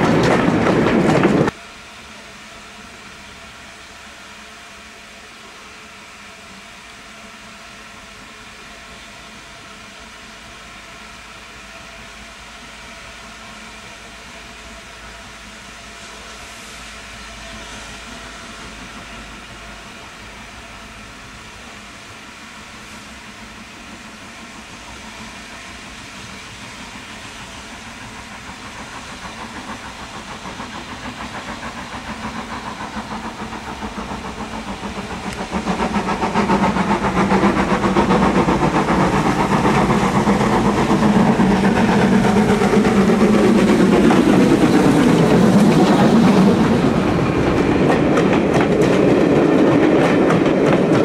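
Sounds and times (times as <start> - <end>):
steam locomotive passing: 0.0 - 51.0.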